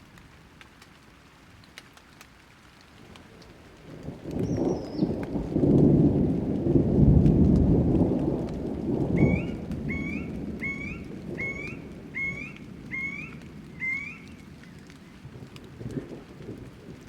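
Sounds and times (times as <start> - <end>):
steady rain: 0.0 - 17.0
thunder rumble: 3.0 - 17.0.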